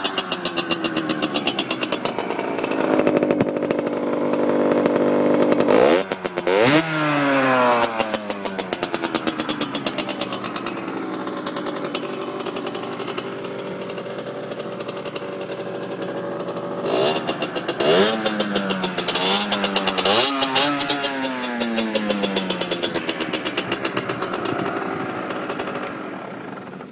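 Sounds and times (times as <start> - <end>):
two-stroke motorcycle revving: 0.0 - 26.9.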